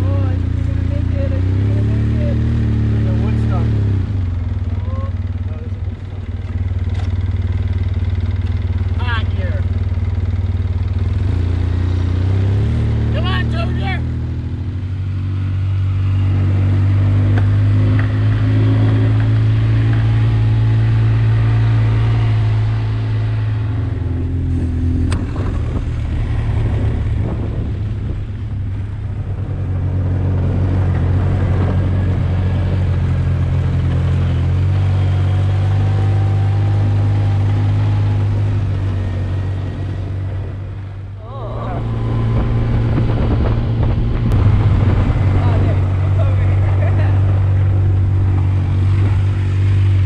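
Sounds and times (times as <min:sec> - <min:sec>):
quad bike engine running: 0:00.0 - 0:50.0.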